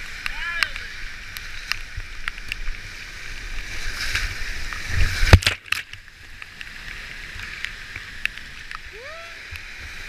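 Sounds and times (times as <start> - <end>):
whitewater rushing: 0.0 - 5.8, 6.8 - 10.0.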